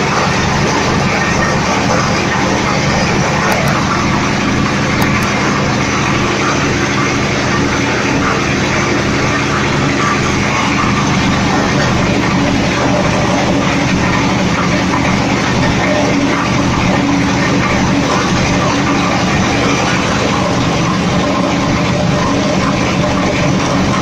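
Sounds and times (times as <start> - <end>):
oil expeller machine humming: 0.0 - 24.0.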